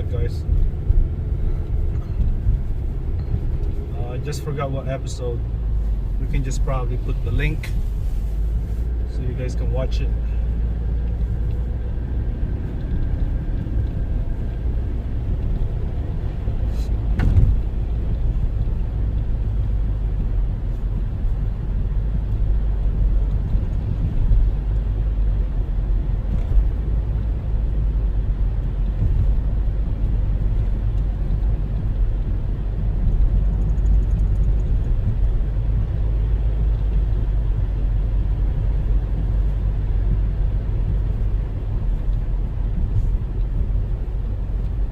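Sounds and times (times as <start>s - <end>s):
car cabin road rumble: 0.0s - 44.9s.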